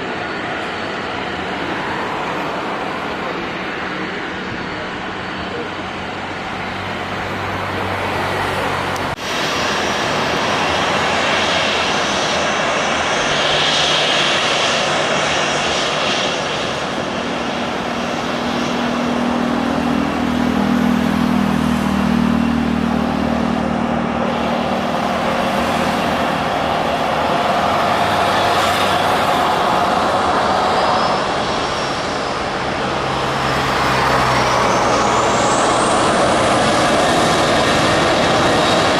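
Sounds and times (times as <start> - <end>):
jet engines rushing: 0.0 - 38.9.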